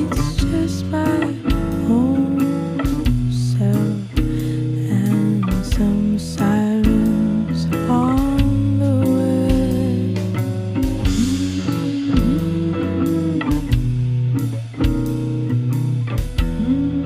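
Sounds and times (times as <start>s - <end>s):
bluesy guitar music: 0.0s - 17.0s.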